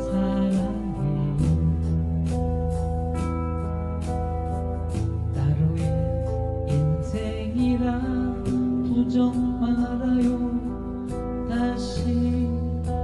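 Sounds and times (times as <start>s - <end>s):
acoustic guitar: 0.0s - 13.0s
person singing slow melody: 0.0s - 13.0s.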